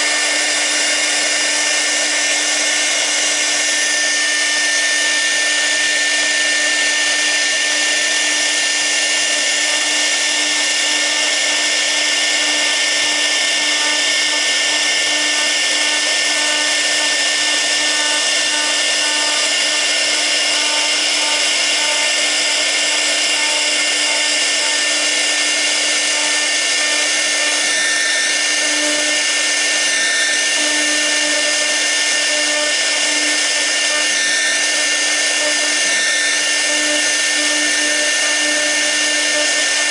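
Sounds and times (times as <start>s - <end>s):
bit cutting wood: 0.0s - 39.9s
router spindle high tone: 0.0s - 39.9s.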